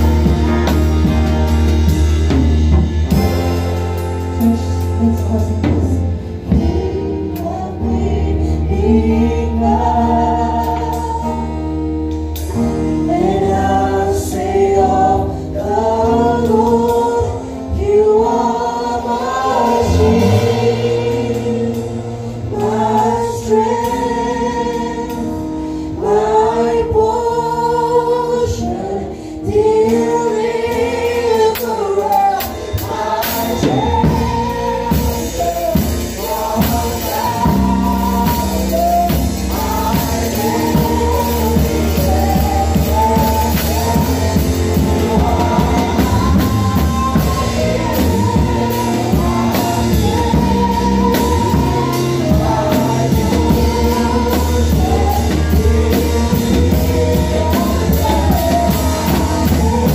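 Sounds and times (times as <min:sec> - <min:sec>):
low bass: 0:00.0 - 0:26.4, 0:30.7 - 0:59.9
drum kit playing: 0:00.0 - 0:27.2, 0:29.5 - 0:59.9
voices singing together: 0:00.0 - 0:59.9.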